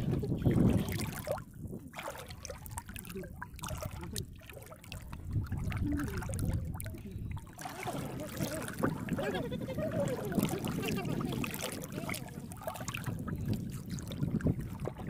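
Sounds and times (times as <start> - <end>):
muddy water sloshing and trickling: 0.0 - 15.0
small water splashes: 0.0 - 15.0.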